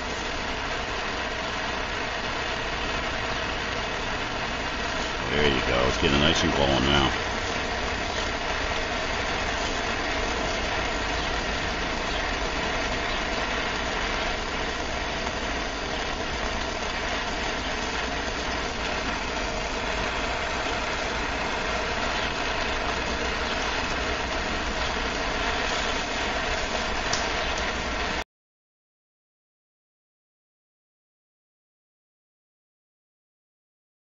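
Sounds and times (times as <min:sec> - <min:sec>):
gas torch hissing: 0:00.0 - 0:28.2.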